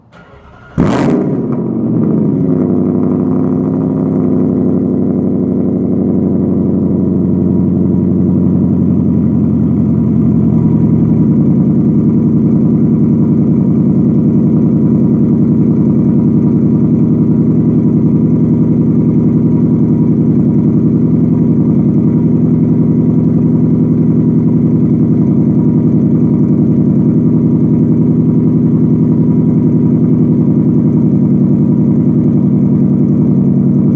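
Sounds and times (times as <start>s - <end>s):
car engine idling through exhaust: 0.0s - 33.9s
car engine starting: 0.0s - 33.9s.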